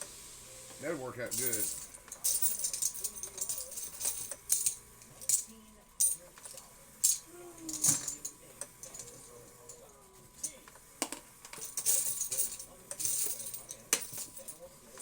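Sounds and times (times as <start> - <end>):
coins and plastic chips clinking: 1.2 - 15.0.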